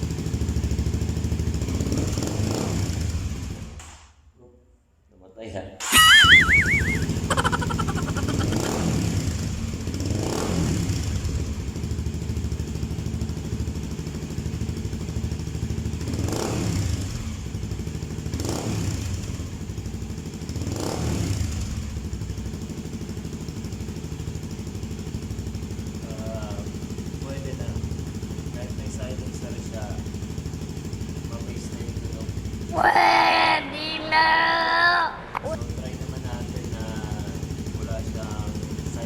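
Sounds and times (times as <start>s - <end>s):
motorcycle engine idling and revving: 0.0s - 4.3s, 6.4s - 33.6s, 35.4s - 39.0s.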